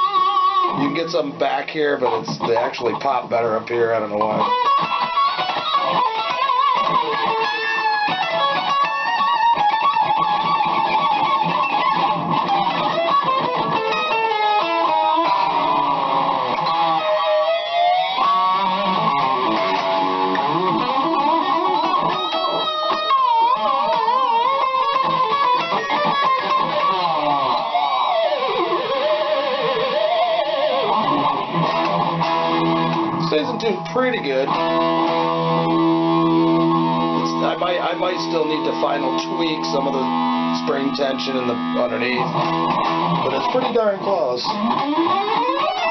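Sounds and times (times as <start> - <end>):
electric guitar with tremolo wobble: 0.0 - 45.9.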